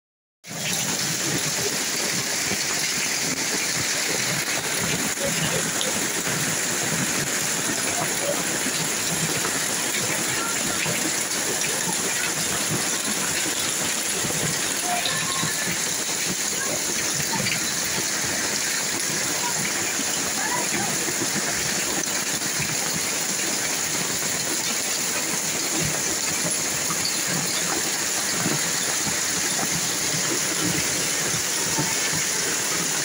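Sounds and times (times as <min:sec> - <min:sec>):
hail and rain hissing: 0:00.5 - 0:33.0
hailstones ticking on surfaces: 0:00.5 - 0:33.0.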